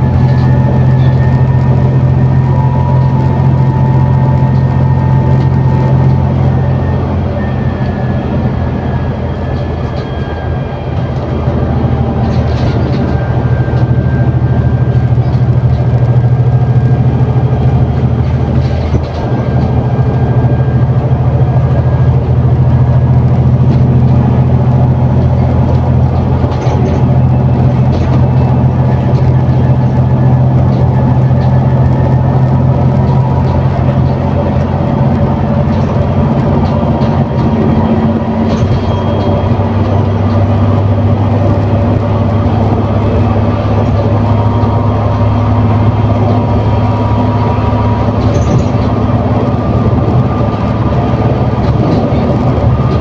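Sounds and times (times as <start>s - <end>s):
bus engine droning under load: 0.0s - 53.0s.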